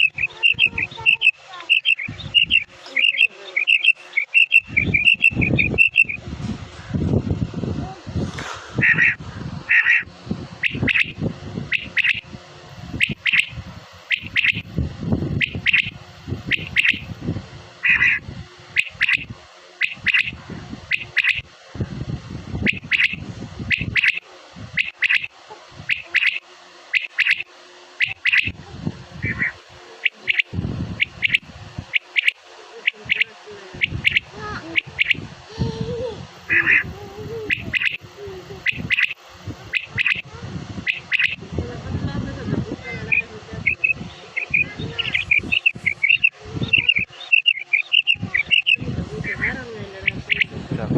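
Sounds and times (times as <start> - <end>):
bird calling harsh notes: 0.0 - 6.2, 8.8 - 21.5, 22.6 - 35.4, 36.3 - 41.5, 42.8 - 50.6
low rumbling background noise: 0.0 - 50.9.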